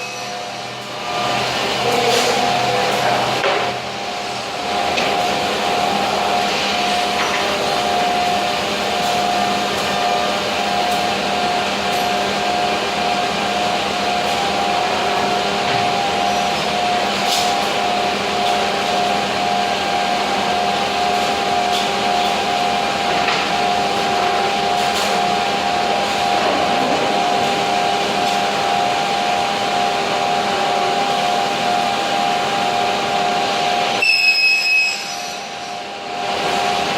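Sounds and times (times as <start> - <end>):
wood machining centre whine: 0.0 - 36.9.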